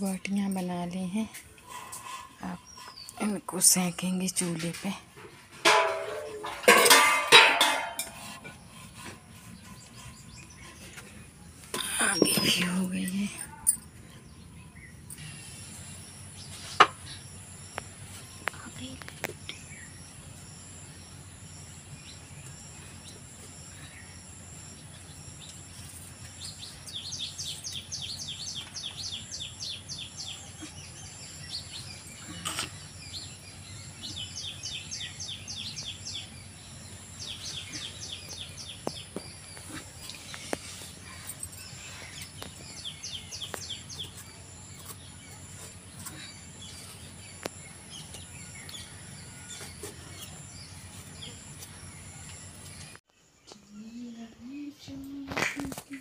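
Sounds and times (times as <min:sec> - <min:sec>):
birds chirping: 0:00.0 - 0:56.0
steady low hum: 0:00.0 - 0:56.0.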